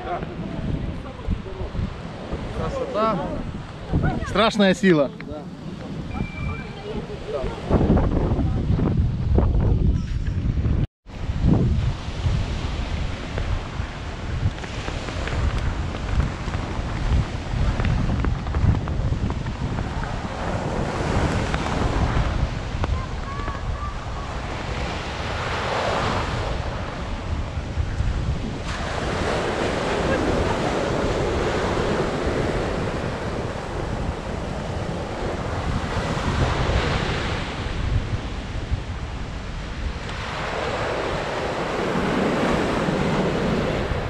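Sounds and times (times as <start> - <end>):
sea surf breaking on beach: 0.0 - 8.9, 11.1 - 44.0
wind buffeting microphone: 0.0 - 44.0.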